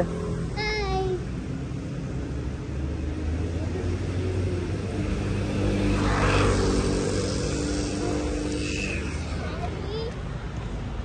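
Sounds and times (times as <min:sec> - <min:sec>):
vehicle engine passing: 0:00.0 - 0:10.2
low traffic rumble: 0:00.0 - 0:11.0.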